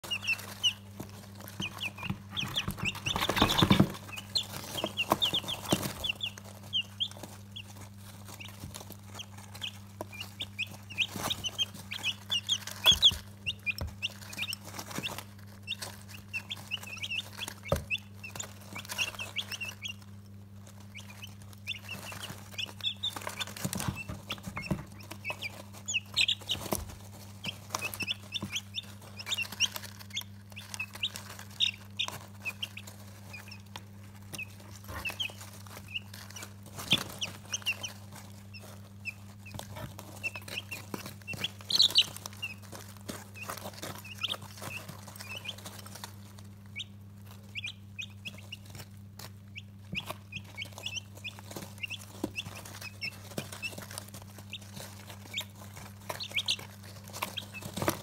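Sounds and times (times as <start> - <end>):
beaks pecking on a saucer: 0.0 - 58.0
chicks peeping: 0.0 - 58.0.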